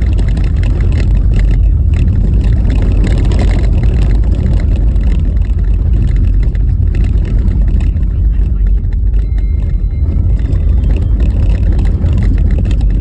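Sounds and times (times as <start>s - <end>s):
car tyres rumbling on rough road: 0.0s - 13.0s
knocks and rattles: 0.0s - 13.0s.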